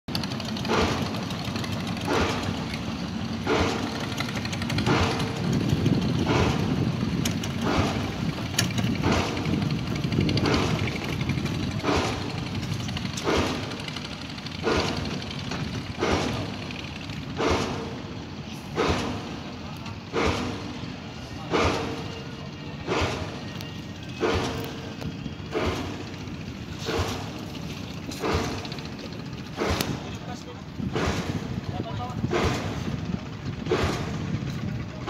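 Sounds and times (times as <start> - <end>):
boat engine rumbling: 0.1 - 35.0.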